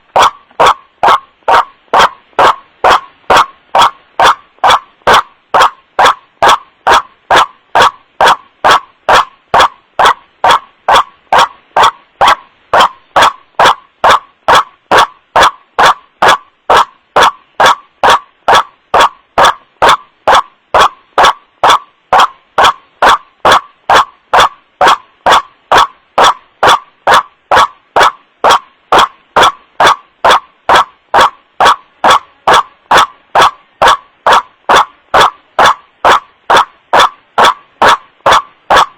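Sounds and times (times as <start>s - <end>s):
waterhen wak-wak call: 0.1s - 38.9s.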